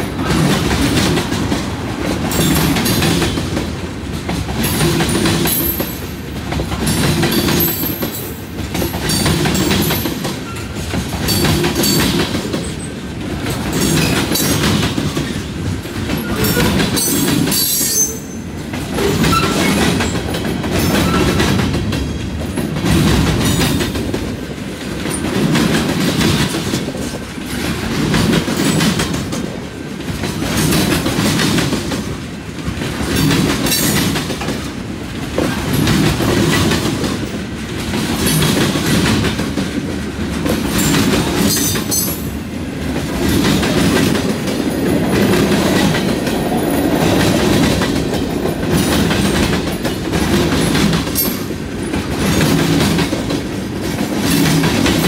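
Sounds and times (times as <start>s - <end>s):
freight train wheels clacking: 0.0s - 55.0s.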